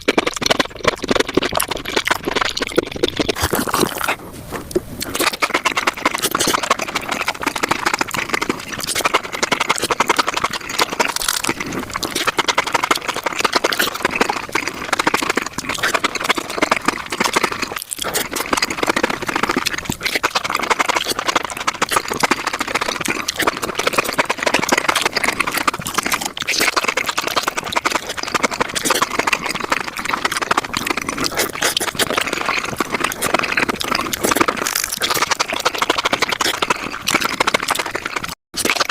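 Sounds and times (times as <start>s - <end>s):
sped-up chewing and crunching: 0.0s - 38.9s.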